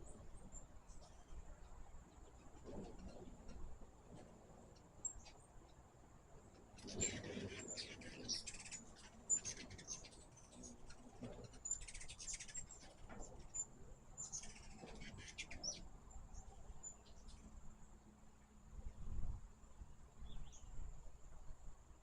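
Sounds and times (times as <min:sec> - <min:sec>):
hummingbirds chattering: 0:00.0 - 0:18.7.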